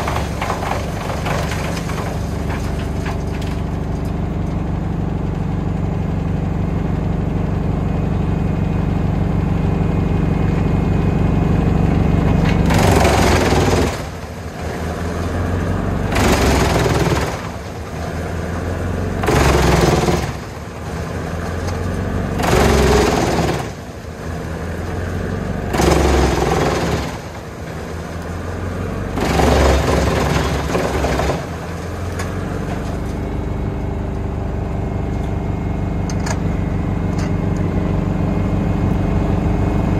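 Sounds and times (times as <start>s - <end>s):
wood chipper chipping log: 0.0s - 39.9s
wood chipper engine running: 0.0s - 39.9s.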